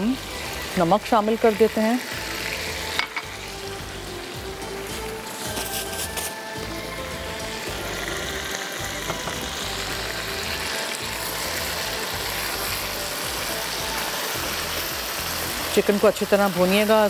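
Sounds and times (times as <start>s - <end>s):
background music: 0.0s - 17.0s
chicken sizzling in oil: 0.0s - 17.0s.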